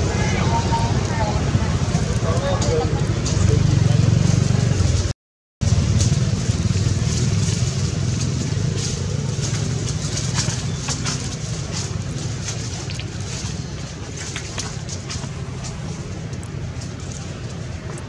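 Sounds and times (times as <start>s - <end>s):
low motor-like rumble: 0.0s - 18.0s.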